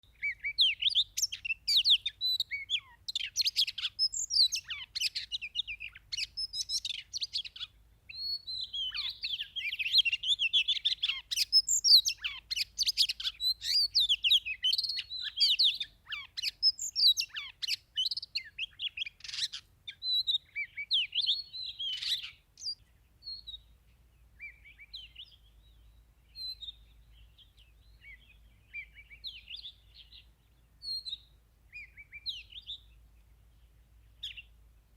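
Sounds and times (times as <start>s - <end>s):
bird singing whistled phrases: 0.0s - 23.7s, 24.4s - 32.9s.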